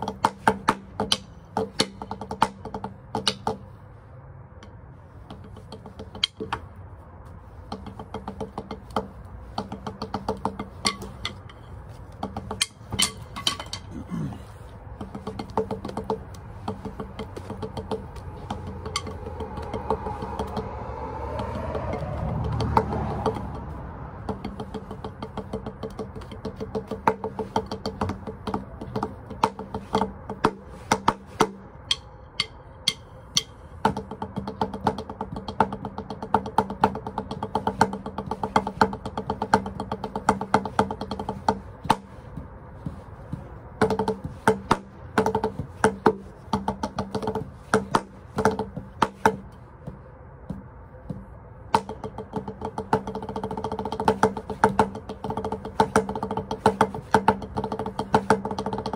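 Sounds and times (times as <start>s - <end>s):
drumsticks on practice pad: 0.0s - 58.9s.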